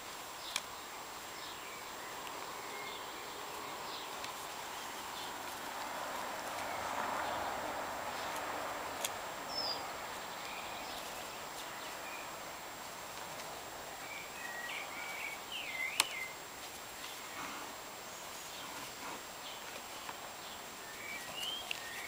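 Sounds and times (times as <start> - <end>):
rustling hiss: 0.0 - 22.0.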